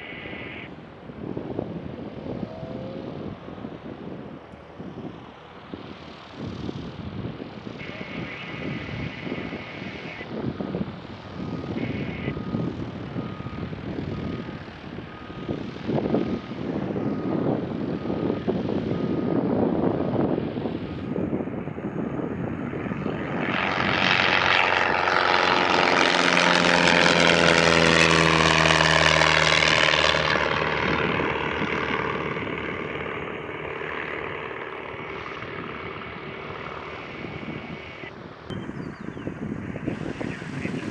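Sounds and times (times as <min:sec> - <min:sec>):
propeller airplane passing: 0:00.0 - 0:40.9
wind buffeting microphone: 0:00.0 - 0:40.9.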